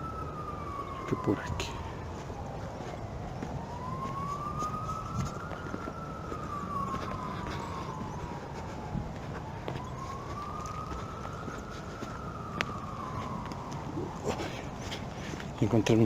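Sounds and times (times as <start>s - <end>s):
distant siren wailing: 0.0s - 16.0s.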